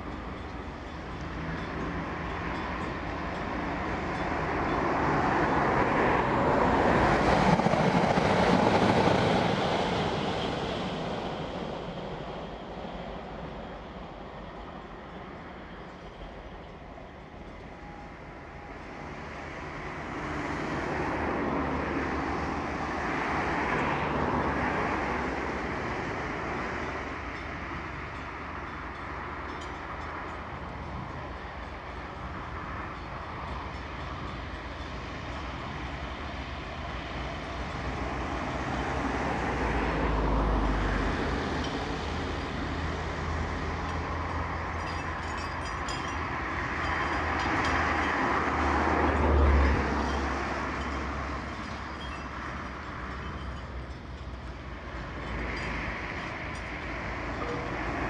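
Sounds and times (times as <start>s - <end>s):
rail vehicle rumbling: 0.0s - 58.0s.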